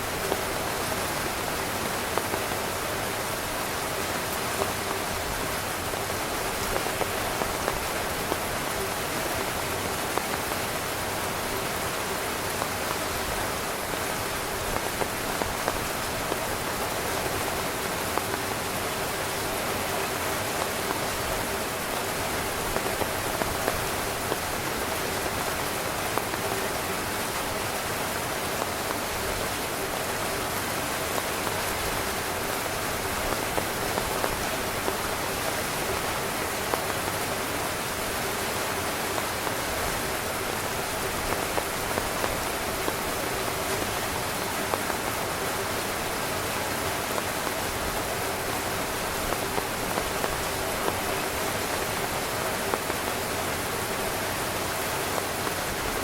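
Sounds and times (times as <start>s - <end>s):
heavy rain on tent fabric: 0.0s - 56.0s.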